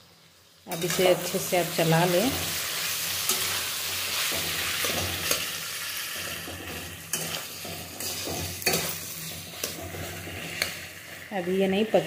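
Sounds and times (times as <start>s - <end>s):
pumpkin sizzling in hot oil: 0.0s - 12.0s
metal spatula scraping a pan: 0.7s - 11.3s.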